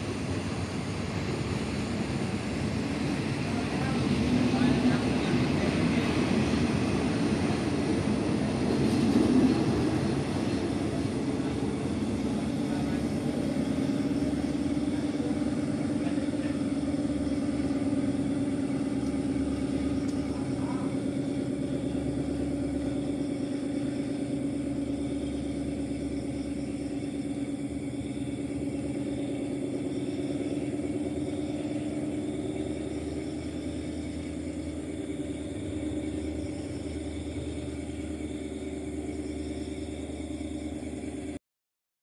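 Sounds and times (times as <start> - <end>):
diesel locomotive engine drone: 0.0 - 41.4.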